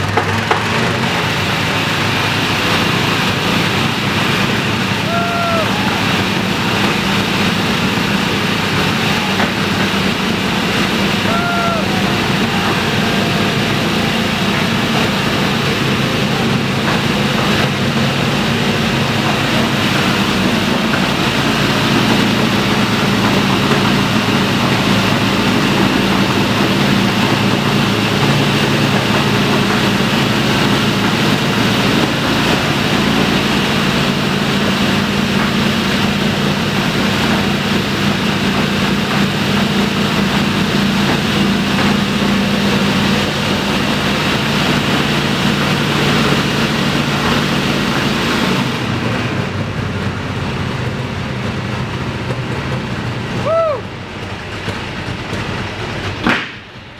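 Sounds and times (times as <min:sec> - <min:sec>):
radial aircraft engine droning: 0:00.0 - 0:56.9.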